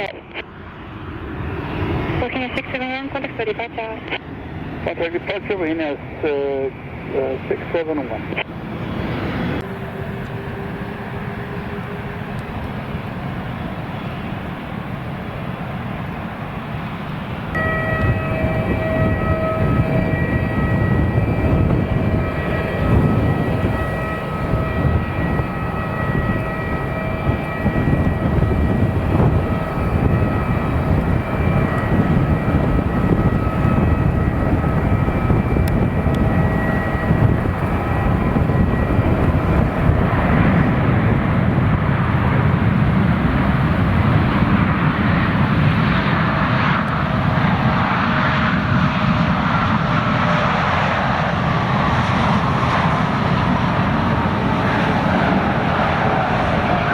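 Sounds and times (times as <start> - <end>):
jet engines rumbling and whining: 0.0 - 56.9.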